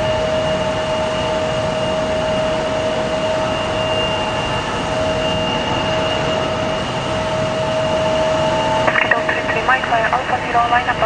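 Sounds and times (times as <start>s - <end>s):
jet engines at high power: 0.0s - 11.0s.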